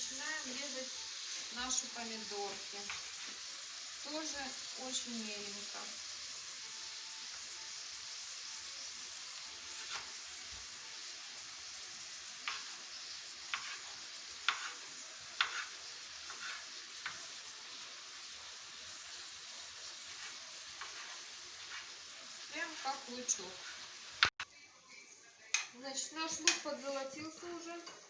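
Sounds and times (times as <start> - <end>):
onion sizzling in a frying pan: 0.0 - 24.4.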